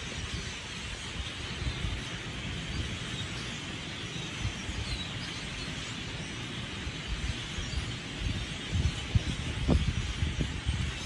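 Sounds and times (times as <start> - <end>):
faint bird chirping: 0.0 - 11.0
flock of birds rushing din: 0.0 - 11.0.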